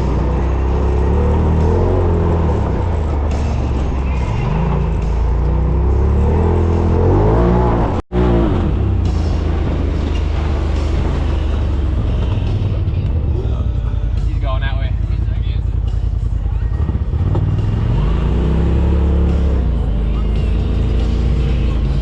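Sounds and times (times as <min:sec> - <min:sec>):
utility vehicle engine revving: 0:00.0 - 0:22.0.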